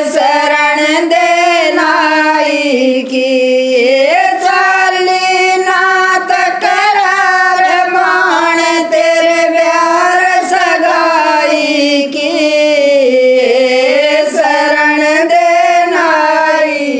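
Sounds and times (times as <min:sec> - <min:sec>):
women singing folk song: 0:00.0 - 0:16.9.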